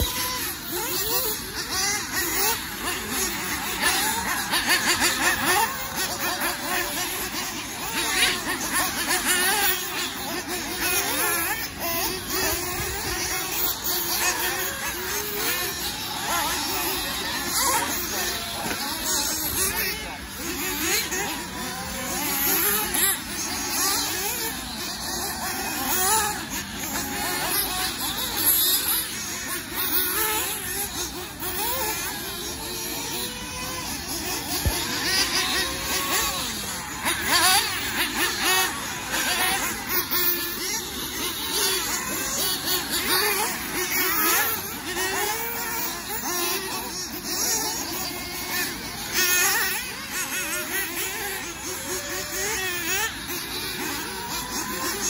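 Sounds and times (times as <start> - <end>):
rc car engines whining: 0.0 - 55.0.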